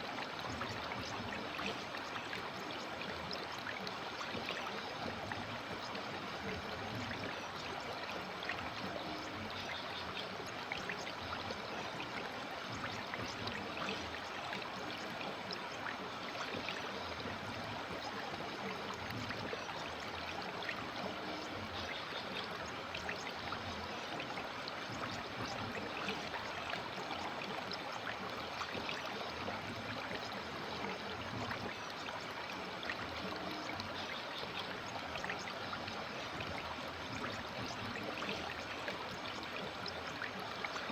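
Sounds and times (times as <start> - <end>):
river water babbling over stones: 0.0 - 40.9.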